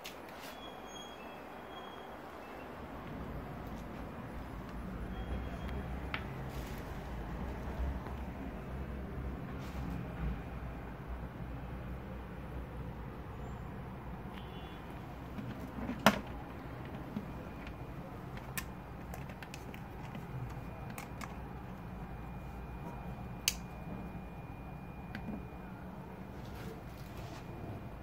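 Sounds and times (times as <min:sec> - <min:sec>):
faint high whine: 0:00.4 - 0:15.3, 0:16.1 - 0:28.0
steady low hum: 0:02.8 - 0:28.0.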